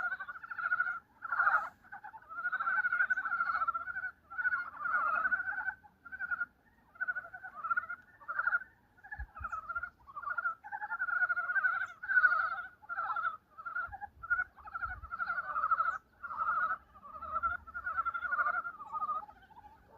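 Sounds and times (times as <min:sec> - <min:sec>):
frogs croaking in chorus: 0:00.0 - 0:19.9.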